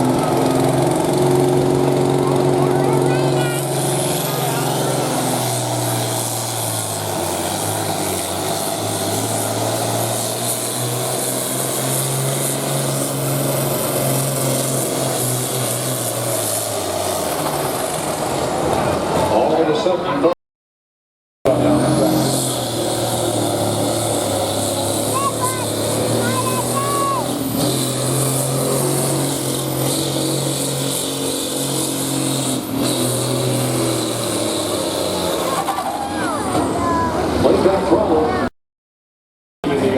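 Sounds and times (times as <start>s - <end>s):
tractor diesel engine at full throttle: 0.0s - 20.1s, 21.5s - 38.5s, 39.6s - 39.9s.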